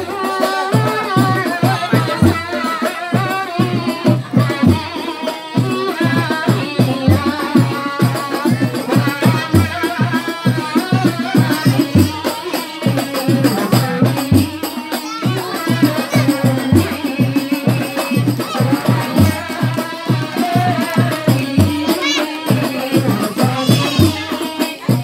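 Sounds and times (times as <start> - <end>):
fast drum beat: 0.0 - 25.0
person singing: 0.0 - 25.0
rattling percussion: 0.0 - 25.0.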